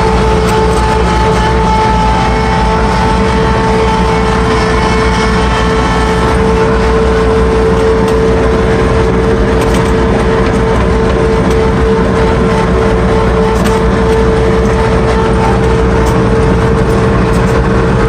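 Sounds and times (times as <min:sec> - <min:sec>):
high whine: 0:00.0 - 0:18.0
mower engine rumbling: 0:00.0 - 0:18.0.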